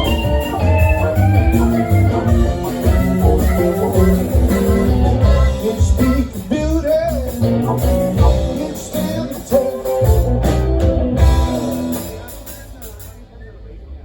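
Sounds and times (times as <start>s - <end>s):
electric guitar: 0.0s - 12.5s
live rock blues band: 0.0s - 13.1s.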